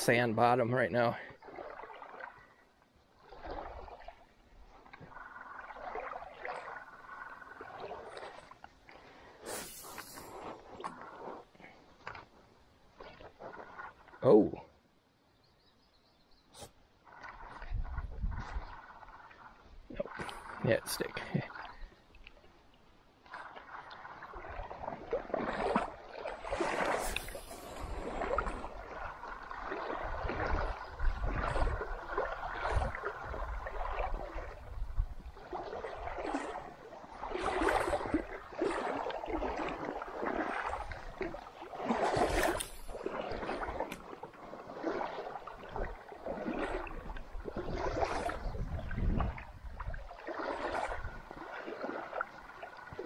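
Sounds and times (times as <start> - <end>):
legs wading through water: 0.0 - 14.8, 15.9 - 53.0.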